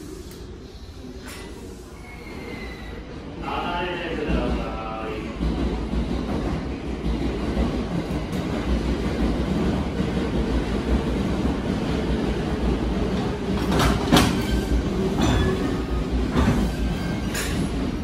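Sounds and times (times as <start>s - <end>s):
electric train rumbling slowly: 0.0s - 18.0s.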